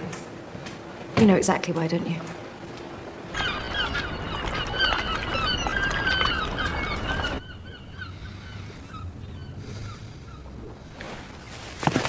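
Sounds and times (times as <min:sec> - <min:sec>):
low steady rumble: 0:00.0 - 0:11.8
waterbirds calling: 0:01.3 - 0:12.0.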